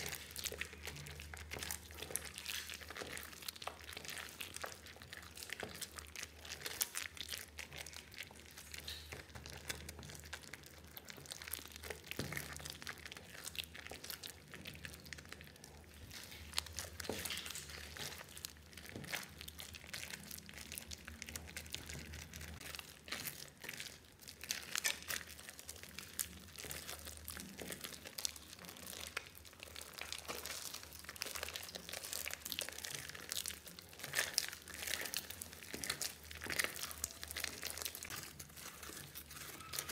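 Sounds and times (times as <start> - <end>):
wet slime squelching and popping: 0.0 - 39.9.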